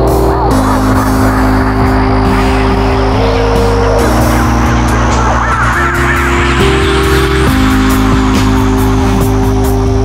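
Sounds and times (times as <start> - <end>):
held synth tones: 0.0 - 10.0
steady synth bass: 0.0 - 10.0.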